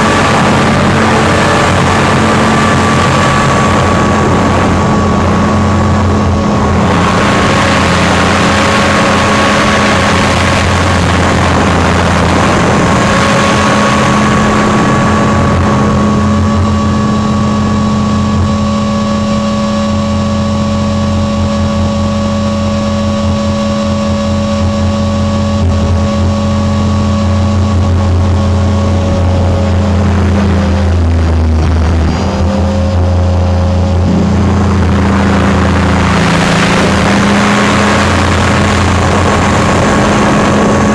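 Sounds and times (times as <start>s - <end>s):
constant whine: 0.0s - 40.9s
helicopter motor and rotor drone: 0.0s - 40.9s.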